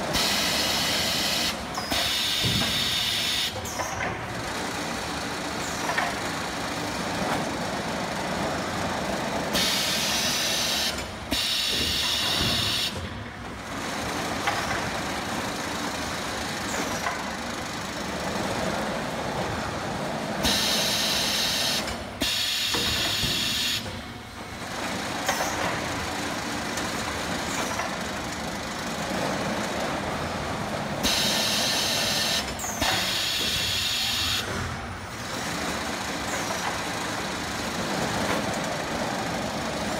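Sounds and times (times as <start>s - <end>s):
steady machinery drone: 0.0s - 39.9s.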